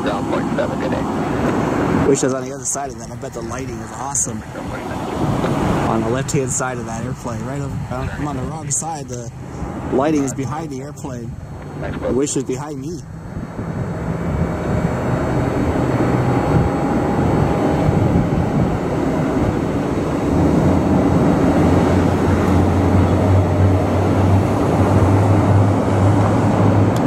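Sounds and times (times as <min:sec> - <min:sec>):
jet engines starting: 0:00.0 - 0:27.0
low hum: 0:00.0 - 0:27.0.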